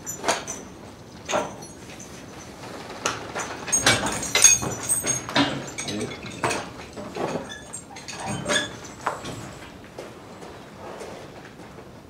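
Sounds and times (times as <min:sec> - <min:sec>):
harness chains clinking: 0:00.0 - 0:09.7.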